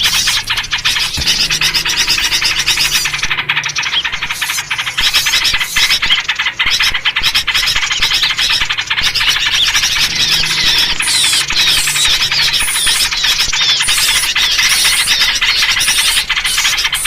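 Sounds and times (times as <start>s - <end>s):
small birds chattering: 0.0s - 17.0s.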